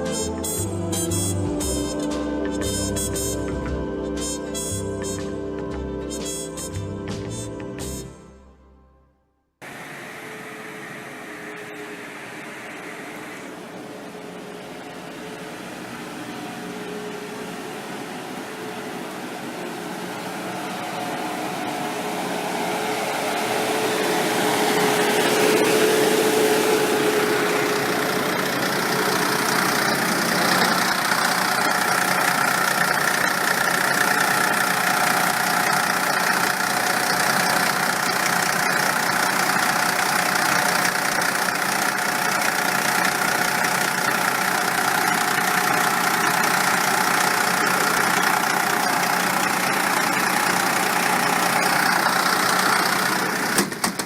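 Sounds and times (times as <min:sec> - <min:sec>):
bus diesel engine idling: 0:09.6 - 0:54.0.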